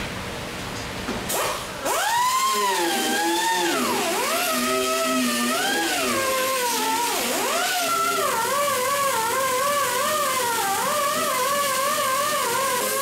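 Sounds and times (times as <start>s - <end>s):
rotary tool cutting fiberglass: 1.3s - 13.0s.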